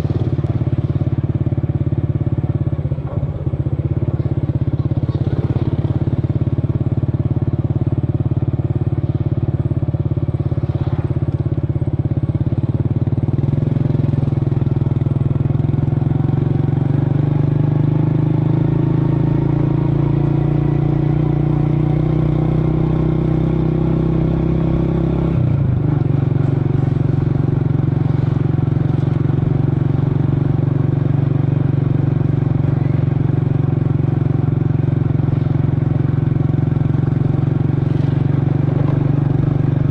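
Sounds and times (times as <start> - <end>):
motor scooter engine revving: 0.0 - 39.9.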